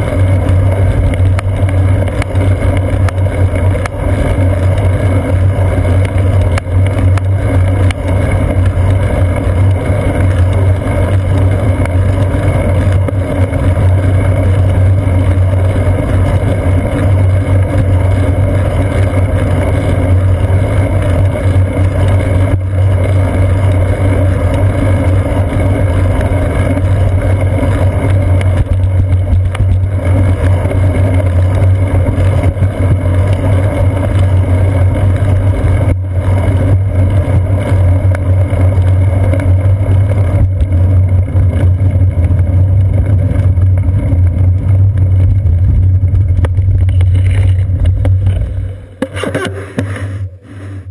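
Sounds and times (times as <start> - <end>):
road vibration rumble: 0.0 - 50.9.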